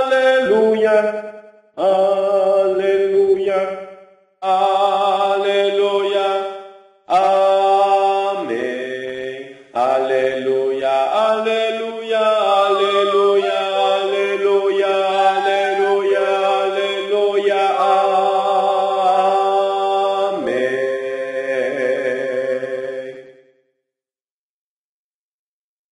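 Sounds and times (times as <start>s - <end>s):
choir singing in harmony: 0.0s - 3.8s, 4.4s - 23.4s.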